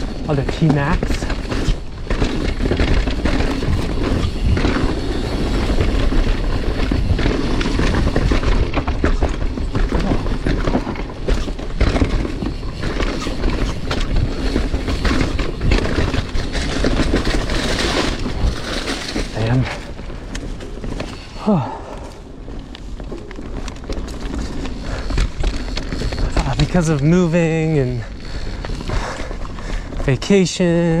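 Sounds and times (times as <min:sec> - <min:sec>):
bike knocks and rattles: 0:00.0 - 0:31.0
bike tyres rumbling on dirt: 0:00.0 - 0:31.0.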